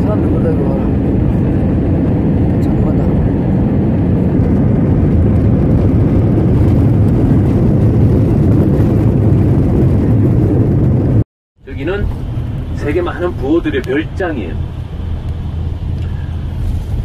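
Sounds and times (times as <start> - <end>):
jet engines rumbling: 0.0 - 17.0
rushing air: 0.0 - 17.0.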